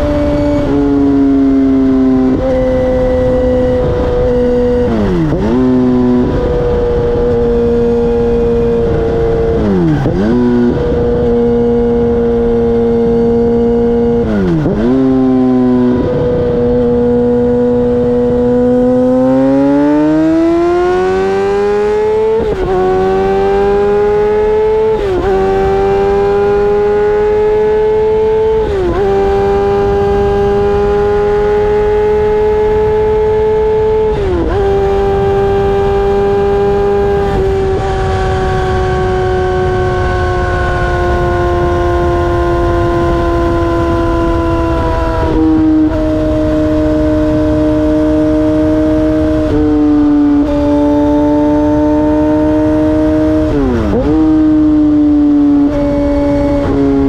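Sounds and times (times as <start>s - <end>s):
motorcycle engine at road speed: 0.0s - 57.0s.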